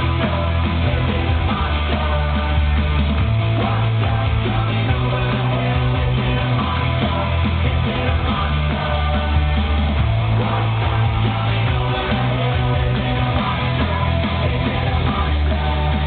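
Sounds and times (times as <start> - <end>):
loud rock music over sound system: 0.0 - 16.0.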